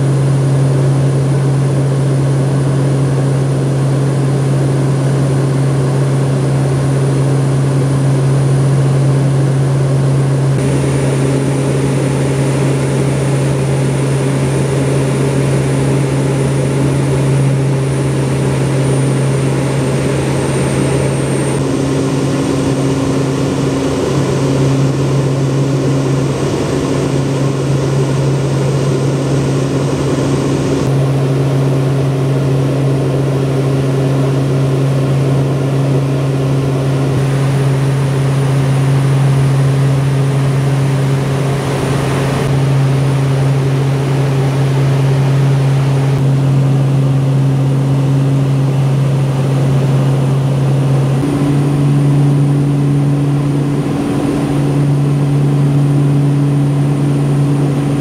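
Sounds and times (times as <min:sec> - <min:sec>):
turboprop engines humming: 0:00.0 - 0:58.0.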